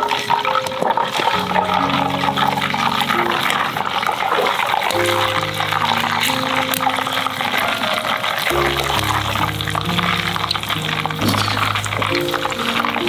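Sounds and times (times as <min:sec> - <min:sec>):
background music: 0:00.0 - 0:13.0
deep-frying sizzle and crackle: 0:00.0 - 0:13.0.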